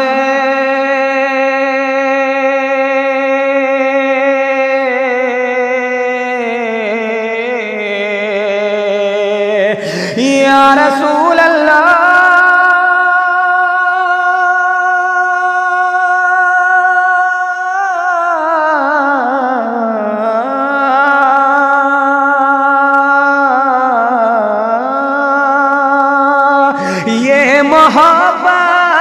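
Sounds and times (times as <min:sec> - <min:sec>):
person singing without words: 0:00.0 - 0:29.0.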